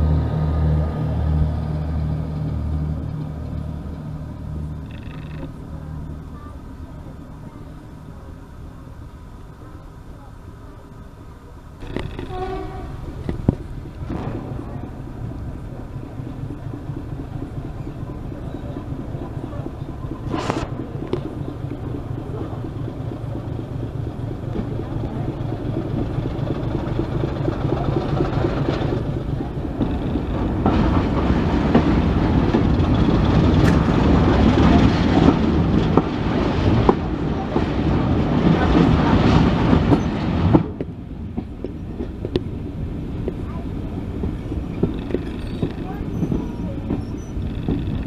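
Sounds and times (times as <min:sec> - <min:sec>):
train rumbling on track: 0:00.0 - 0:48.0.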